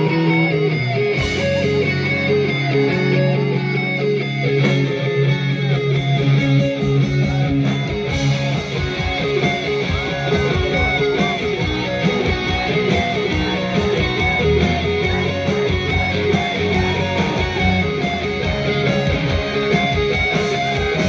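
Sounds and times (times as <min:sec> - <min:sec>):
electric guitar lead with bends: 0:00.0 - 0:21.0
rock band playing live: 0:00.0 - 0:21.0.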